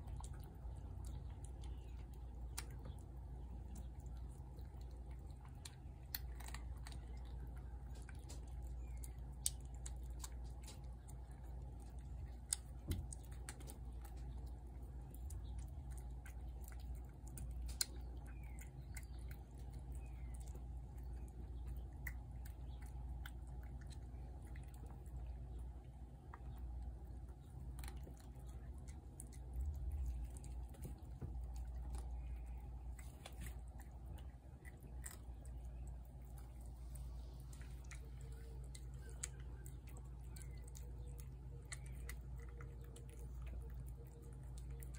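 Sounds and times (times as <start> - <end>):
cats chewing wet food: 0.0 - 44.9
steady low hum: 0.0 - 44.9.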